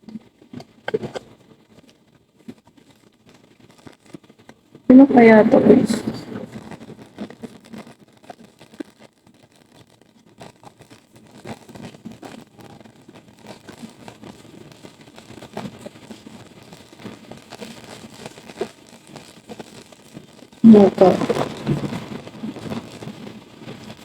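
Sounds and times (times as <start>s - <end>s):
small clicks and crackles: 0.0s - 4.9s, 6.2s - 24.0s.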